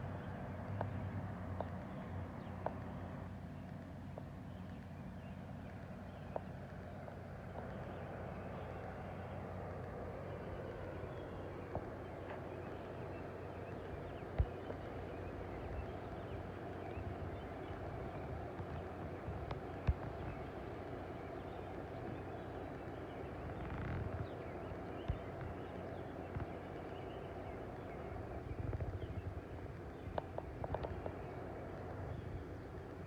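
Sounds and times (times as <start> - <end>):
low hum and hiss: 0.0 - 33.0.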